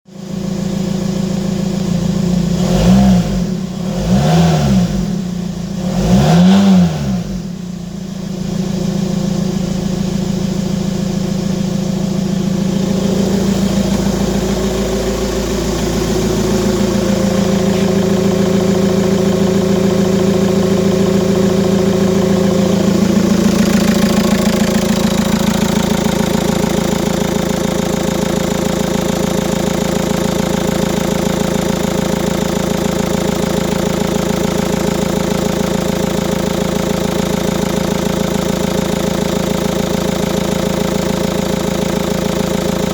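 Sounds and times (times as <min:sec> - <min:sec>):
car engine idling: 0:00.1 - 0:42.9
car engine revving: 0:02.0 - 0:07.6, 0:10.9 - 0:42.9.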